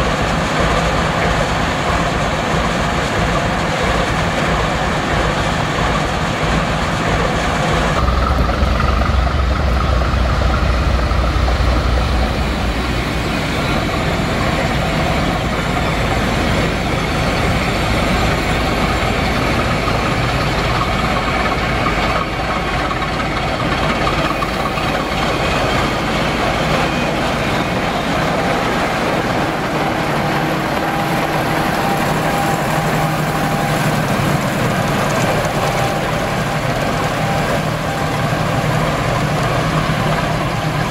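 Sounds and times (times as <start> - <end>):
diesel locomotive engine running: 0.0 - 40.9.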